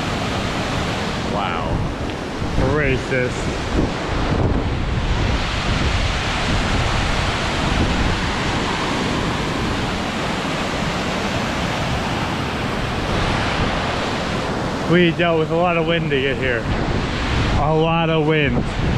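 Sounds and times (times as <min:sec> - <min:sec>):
waterfall roaring: 0:00.0 - 0:18.9
wind buffeting microphone: 0:00.0 - 0:18.9.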